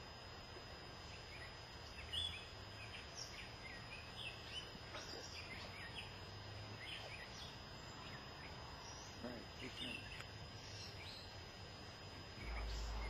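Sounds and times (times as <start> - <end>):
low background hum: 0.0 - 13.0
faint bird chirps: 1.0 - 13.0.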